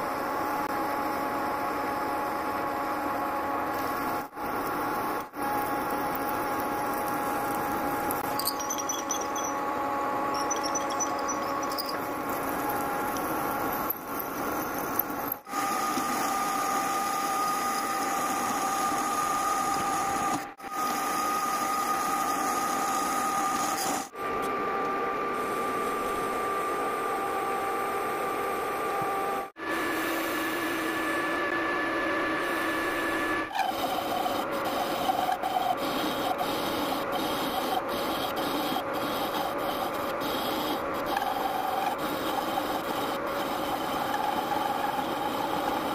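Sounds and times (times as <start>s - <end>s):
metal lathe machine whine: 0.4s - 45.9s.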